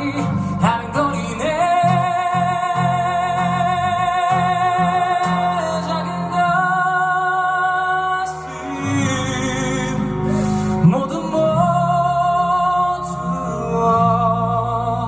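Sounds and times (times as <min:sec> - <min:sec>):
acoustic guitar: 0:00.0 - 0:15.0
man singing a ballad: 0:00.0 - 0:15.0.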